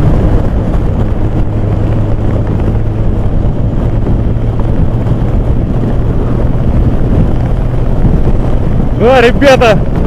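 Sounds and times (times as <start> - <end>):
motorcycle engine at speed: 0.0 - 10.0
wind buffeting microphone: 0.0 - 10.0.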